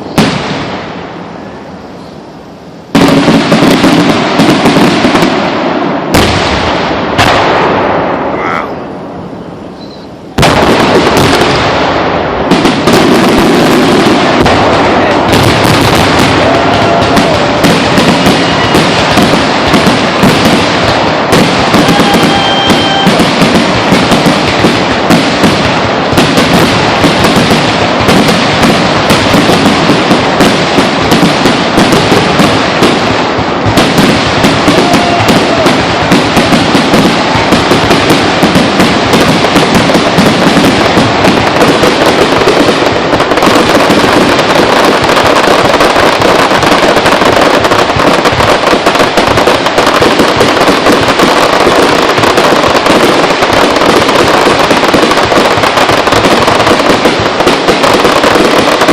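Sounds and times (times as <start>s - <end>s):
fireworks bangs and crackles: 0.0s - 58.9s
fireworks whistles: 0.0s - 58.9s.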